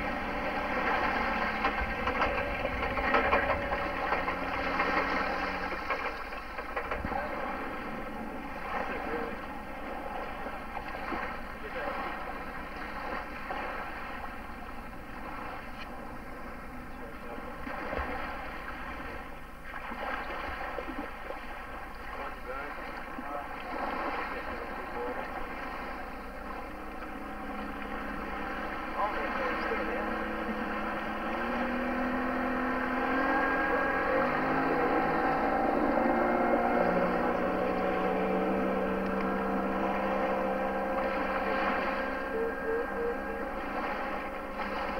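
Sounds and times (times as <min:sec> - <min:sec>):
boat motor running: 0:00.0 - 0:44.9.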